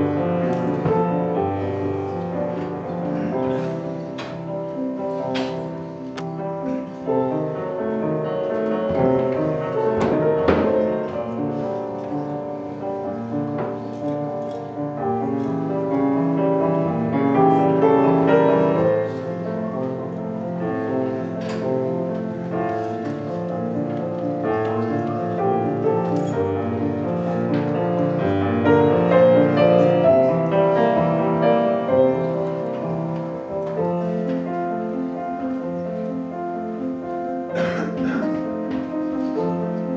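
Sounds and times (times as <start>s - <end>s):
grand piano playing: 0.0s - 39.9s.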